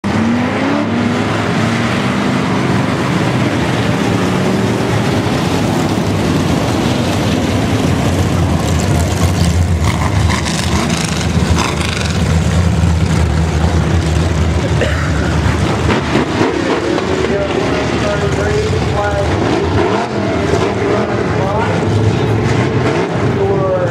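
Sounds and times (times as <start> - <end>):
race car engines: 0.0 - 23.9.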